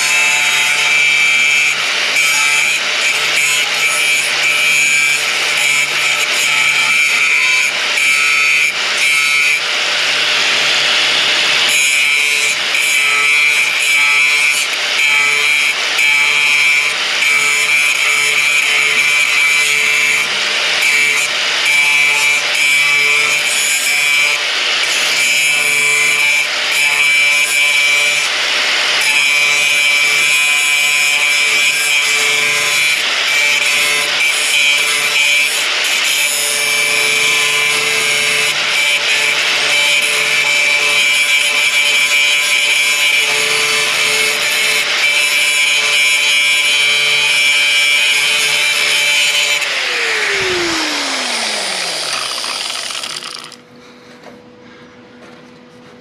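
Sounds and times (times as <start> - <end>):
power saw cutting steel: 0.0 - 53.7.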